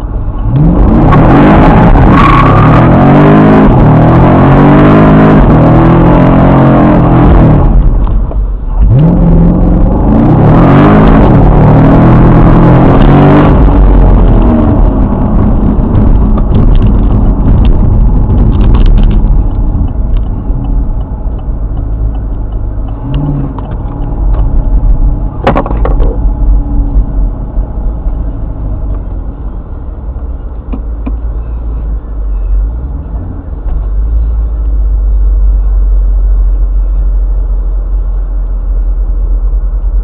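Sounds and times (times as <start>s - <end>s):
car engine running low: 0.0s - 40.0s.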